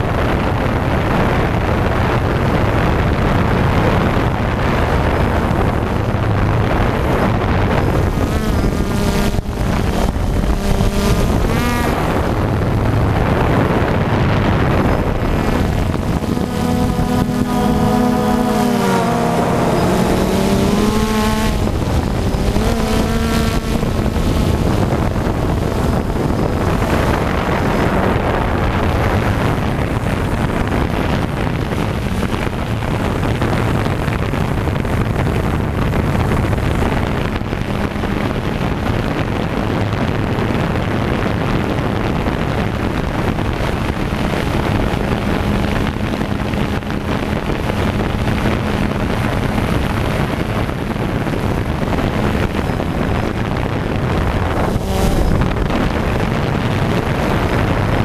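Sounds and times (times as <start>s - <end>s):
drone propellers buzzing: 0.0s - 58.0s.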